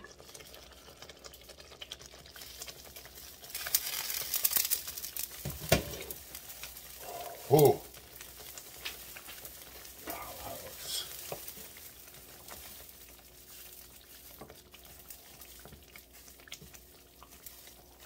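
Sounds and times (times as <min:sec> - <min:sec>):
sauce sizzling and bubbling: 0:00.0 - 0:18.0.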